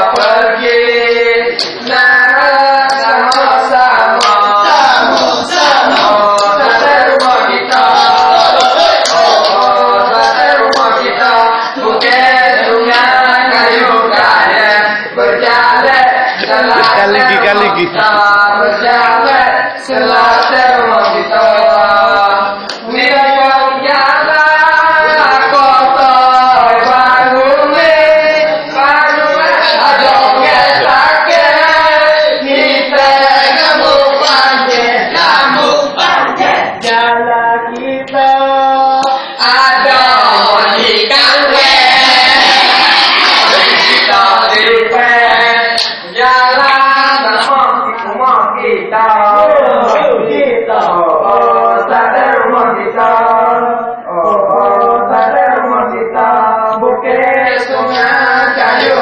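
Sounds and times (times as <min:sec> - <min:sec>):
young voices singing together: 0:00.0 - 0:59.0.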